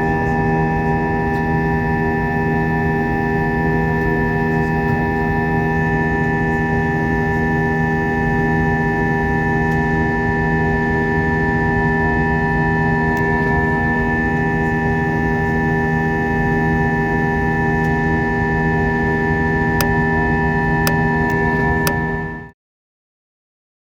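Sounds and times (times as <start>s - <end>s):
jet engine cabin drone: 0.0s - 22.6s.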